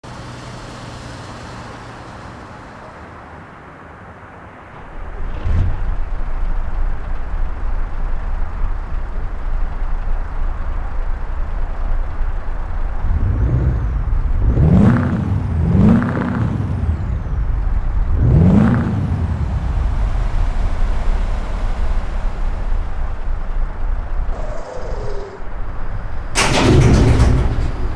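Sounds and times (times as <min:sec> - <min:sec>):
truck engine idling: 0:04.6 - 0:27.9
truck engine revving: 0:04.7 - 0:27.9.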